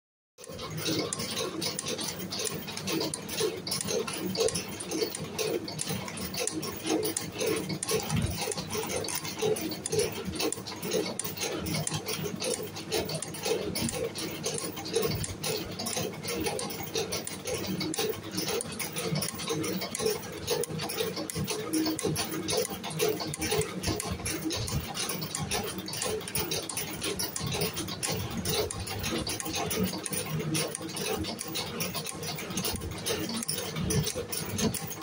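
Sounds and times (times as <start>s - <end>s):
metal parts ticking: 0.4s - 35.0s
spring-coiling machine clatter: 0.4s - 35.0s.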